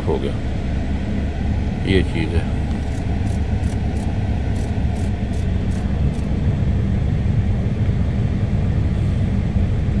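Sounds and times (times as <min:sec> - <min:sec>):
heater blower fan: 0:00.0 - 0:10.0.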